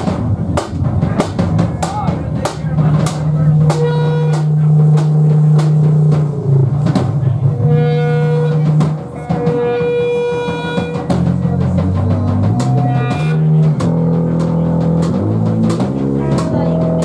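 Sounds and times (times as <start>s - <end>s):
bass guitar notes: 0.0s - 17.0s
drum hits: 0.0s - 17.0s.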